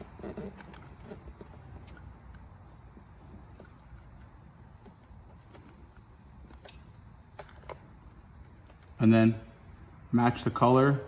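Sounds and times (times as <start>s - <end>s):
high-pitched chirring hiss: 0.0s - 11.0s.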